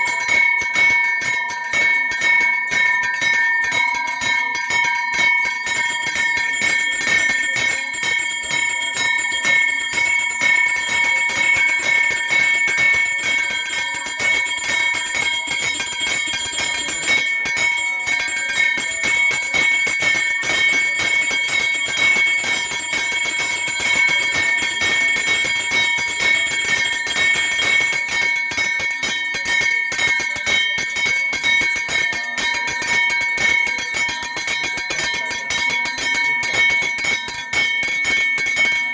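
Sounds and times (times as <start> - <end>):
hand bell ringing rapidly: 0.0 - 38.9.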